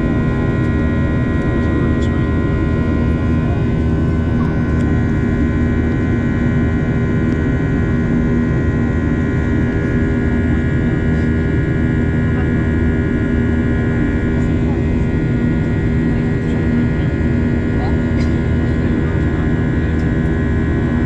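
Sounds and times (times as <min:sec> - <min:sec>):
jet engines rumbling: 0:00.0 - 0:21.0
multi-tone hum: 0:00.0 - 0:21.0.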